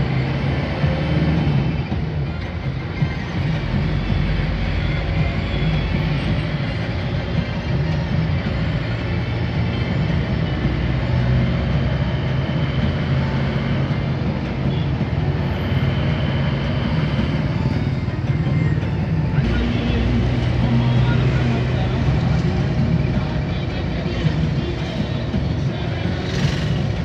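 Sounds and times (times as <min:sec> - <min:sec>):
road noise: 0:00.0 - 0:27.0
vehicle engine drone: 0:00.0 - 0:27.0.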